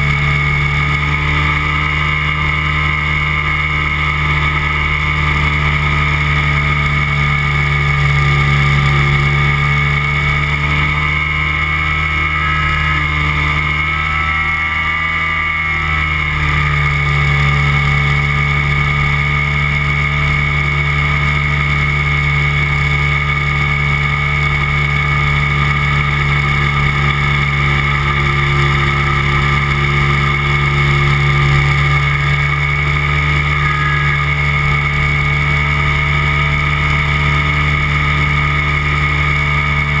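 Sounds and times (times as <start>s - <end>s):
light aircraft engine and propeller: 0.0s - 40.0s.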